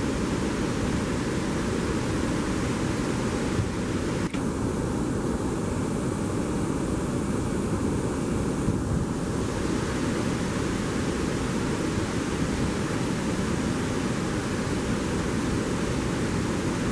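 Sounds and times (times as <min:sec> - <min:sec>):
water rushing through sluice gates: 0:00.0 - 0:16.9.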